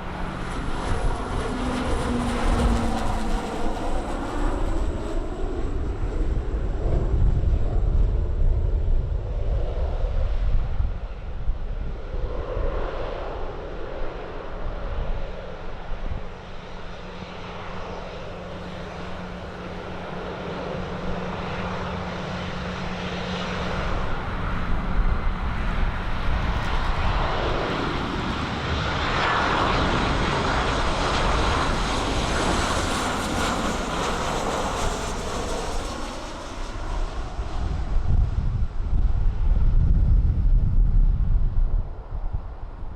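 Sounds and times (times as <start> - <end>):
aircraft engine rumble: 0.0 - 42.9.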